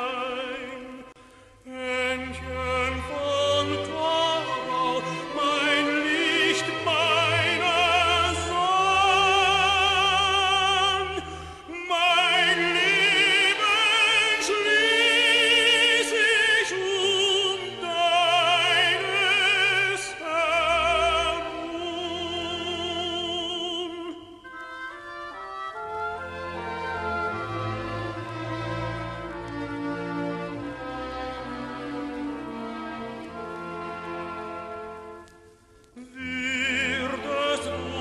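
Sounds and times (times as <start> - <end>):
tenor singing with vibrato: 0.0 - 29.2, 30.0 - 38.0
orchestral accompaniment: 1.7 - 38.0.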